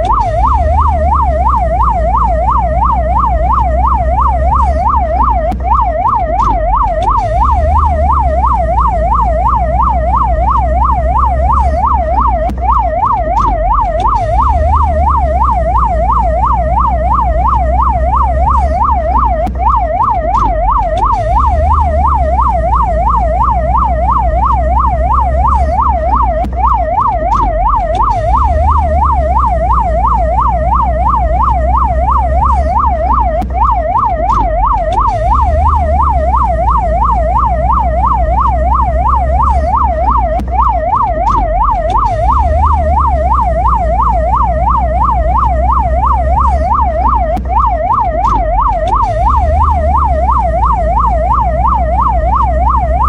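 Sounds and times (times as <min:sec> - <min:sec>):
ambulance siren yelp: 0:00.0 - 0:53.0.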